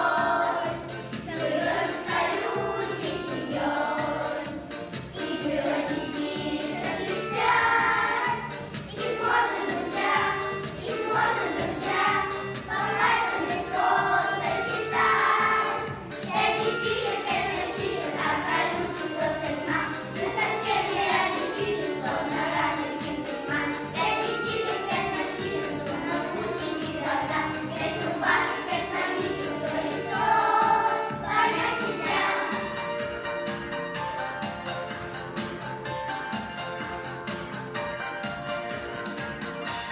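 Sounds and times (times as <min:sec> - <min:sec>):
children singing in chorus: 0:00.0 - 0:04.5, 0:05.1 - 0:32.8
instrumental accompaniment: 0:00.0 - 0:39.9.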